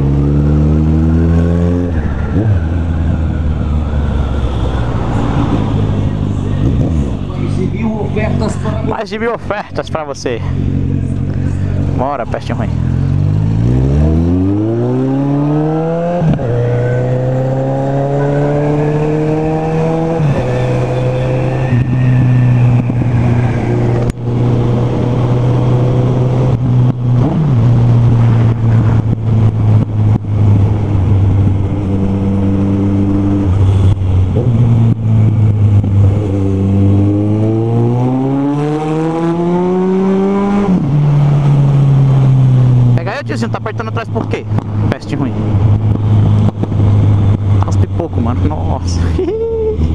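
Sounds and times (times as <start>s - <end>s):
motorcycle engine revving: 0.0s - 49.2s.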